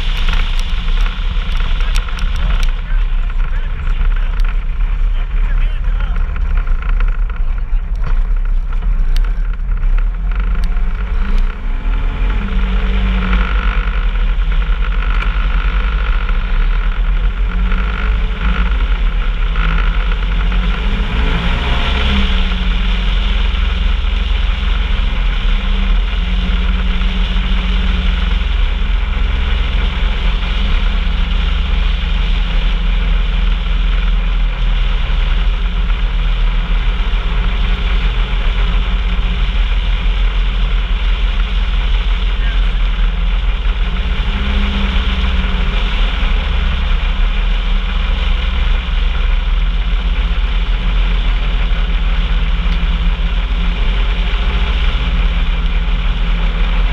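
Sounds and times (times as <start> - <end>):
vehicle engine rumbling: 0.0 - 56.9.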